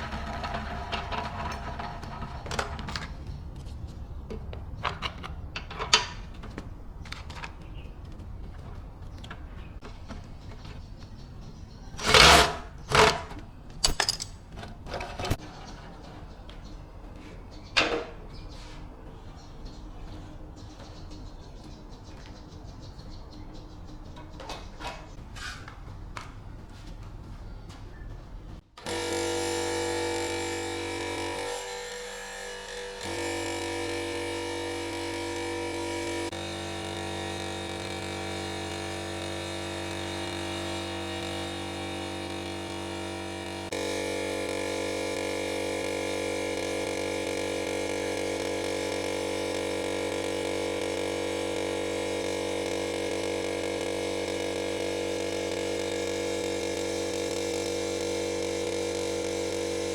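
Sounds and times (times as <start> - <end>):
air compressor motor humming: 0.0 - 23.1, 27.3 - 59.9.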